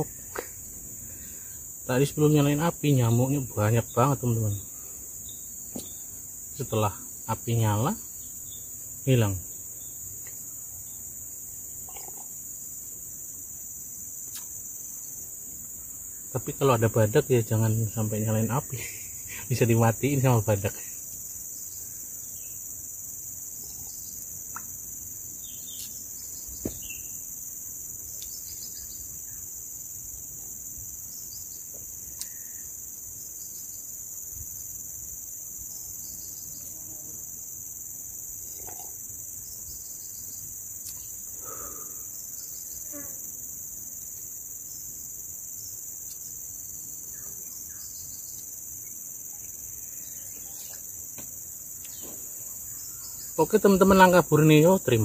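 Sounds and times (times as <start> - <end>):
jungle insects chorus: 0.0 - 55.0.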